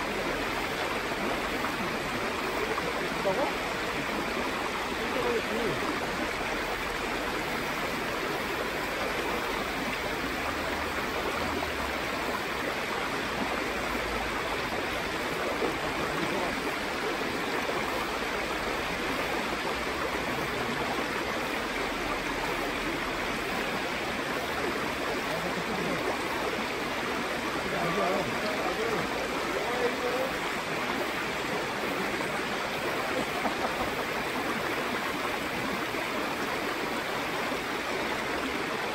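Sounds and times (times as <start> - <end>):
mountain stream flowing: 0.0 - 38.9.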